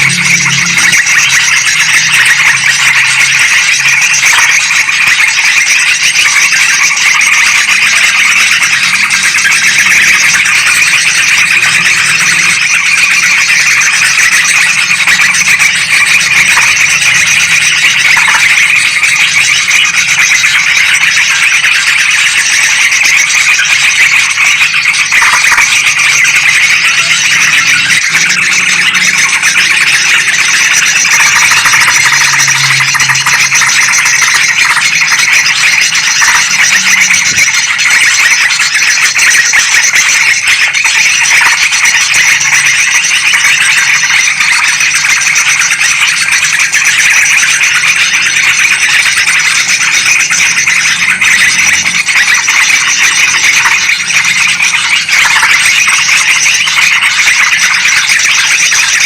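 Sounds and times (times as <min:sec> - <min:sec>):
bulbuls chattering: 0:00.0 - 0:59.0.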